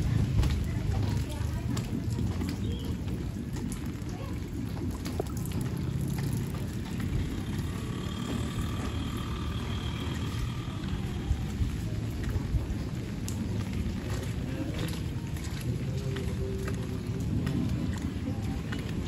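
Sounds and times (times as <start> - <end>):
low rumble: 0.0 - 19.0
rain pattering on street: 0.0 - 19.0
water drips: 0.2 - 19.0.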